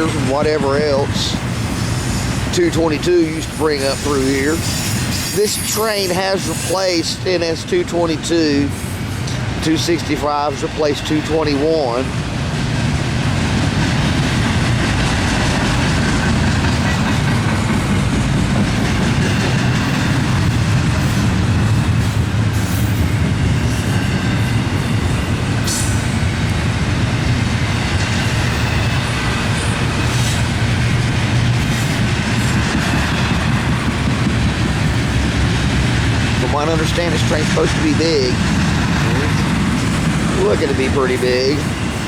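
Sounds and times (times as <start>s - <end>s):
freight train wheels rumbling on rail: 0.0s - 42.0s.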